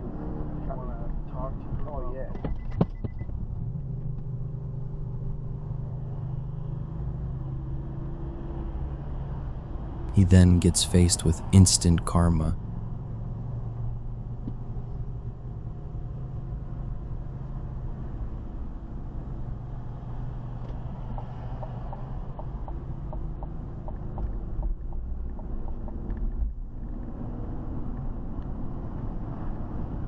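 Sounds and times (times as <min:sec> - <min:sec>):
engine and road noise: 0:02.8 - 0:30.0.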